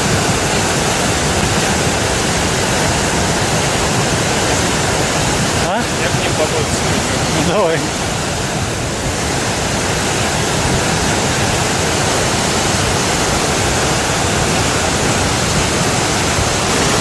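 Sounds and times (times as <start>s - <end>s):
floodwater roaring: 0.0s - 17.0s.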